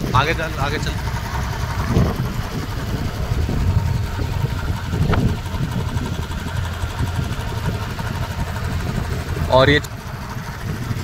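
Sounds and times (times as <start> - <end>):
motorcycle engine thumping: 0.0 - 11.0.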